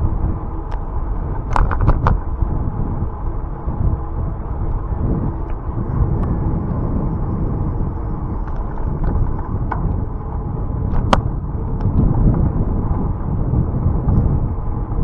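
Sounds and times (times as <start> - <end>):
bicycle clicks and rattles: 0.0 - 15.0
wind buffeting microphone: 0.0 - 15.0.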